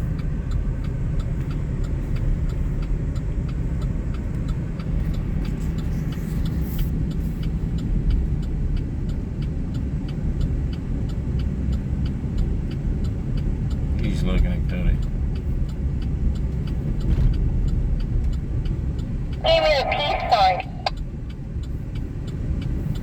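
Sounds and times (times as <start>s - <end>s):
vehicle road and engine rumble: 0.0s - 23.0s.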